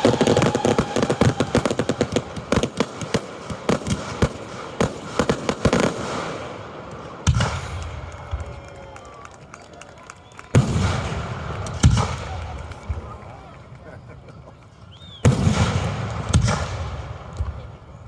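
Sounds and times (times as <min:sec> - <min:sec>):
fireworks bangs and cracks: 0:00.0 - 0:09.6, 0:10.3 - 0:14.4, 0:15.2 - 0:18.0.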